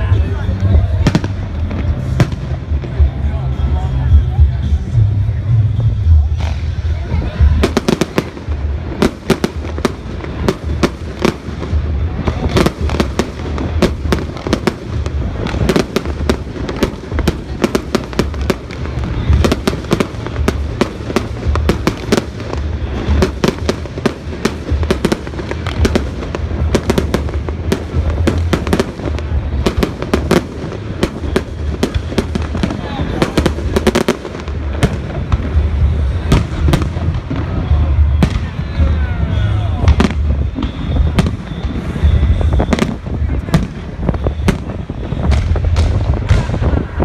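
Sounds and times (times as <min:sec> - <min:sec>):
fireworks bangs and crackles: 0:00.0 - 0:47.0.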